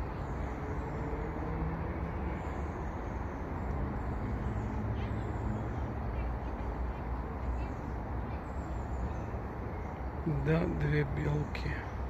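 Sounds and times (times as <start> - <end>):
faint engine hum: 0.0 - 12.0
road traffic rumble: 0.0 - 12.0.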